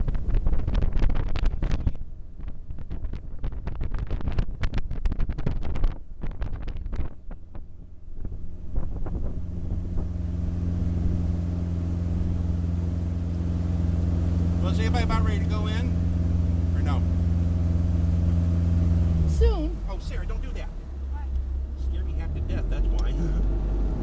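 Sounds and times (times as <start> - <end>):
wind gusting on microphone: 0.0 - 19.9
motorboat engine running: 0.0 - 24.0.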